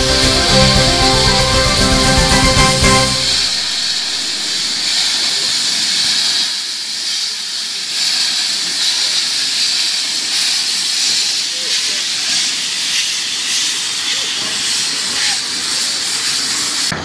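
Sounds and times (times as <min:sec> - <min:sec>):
steam hissing: 0:00.0 - 0:16.9.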